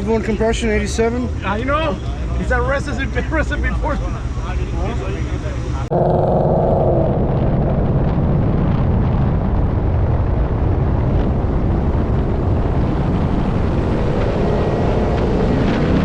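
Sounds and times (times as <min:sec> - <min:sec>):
car engine rumbling: 0:00.0 - 0:16.0
wind and road noise: 0:00.0 - 0:16.0.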